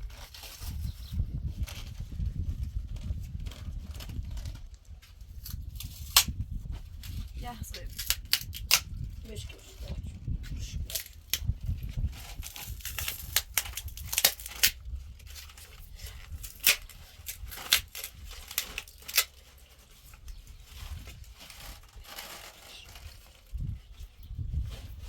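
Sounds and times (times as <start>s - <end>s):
crinkling handling noise: 0.0s - 25.0s.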